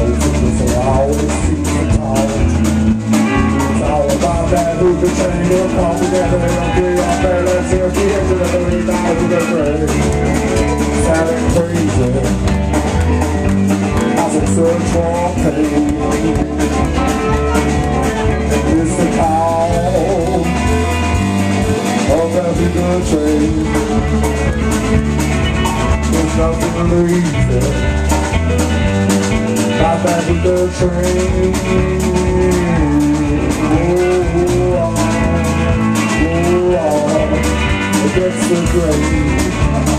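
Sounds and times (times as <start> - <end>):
man singing into microphone: 0.0 - 2.9, 3.6 - 12.5, 14.0 - 21.1, 21.8 - 24.2, 25.8 - 28.0, 29.7 - 39.9
drum kit beat: 0.0 - 39.9
electric guitar: 0.0 - 39.9.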